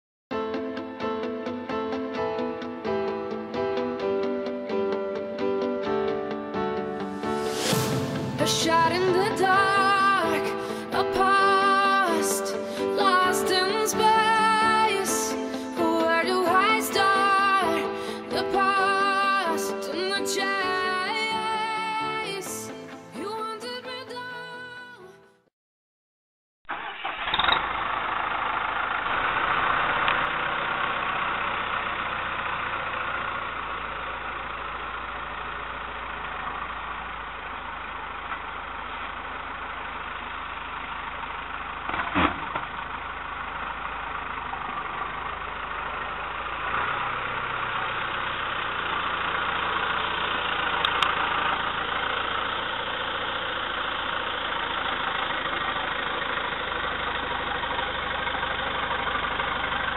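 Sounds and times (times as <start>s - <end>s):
tractor diesel engine running: 1.7s - 23.8s, 26.7s - 59.9s.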